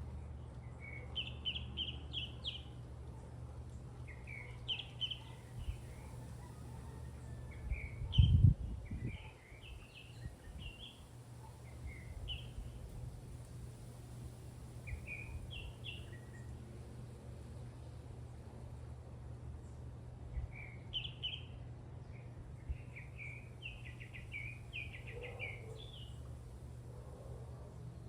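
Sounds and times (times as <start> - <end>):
birds chirping: 0.0 - 13.0, 14.8 - 16.7, 19.6 - 28.0
low background hum: 0.0 - 28.0.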